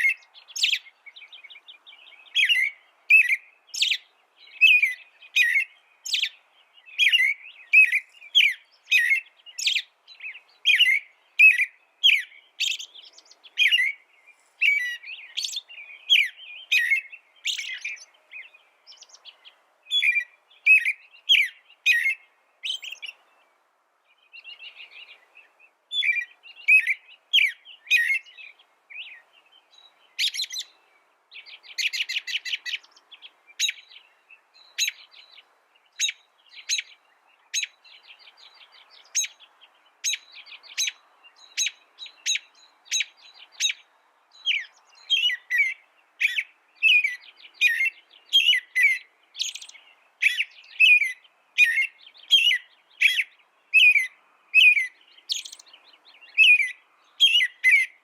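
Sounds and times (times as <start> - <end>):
songbird singing trills and chirps: 0.0 - 58.0.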